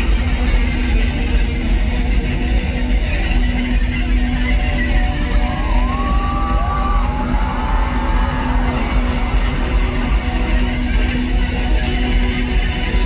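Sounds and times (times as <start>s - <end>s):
guitar: 0.0s - 13.0s
live band music: 0.0s - 13.0s.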